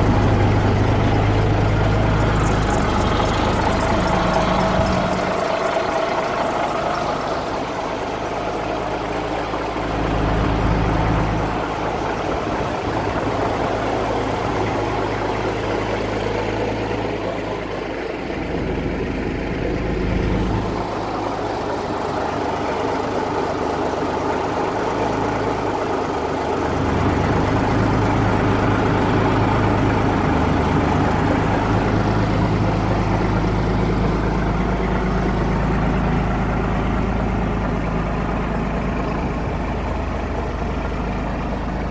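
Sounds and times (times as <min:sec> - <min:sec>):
diesel truck engine idling: 0:00.0 - 0:41.9.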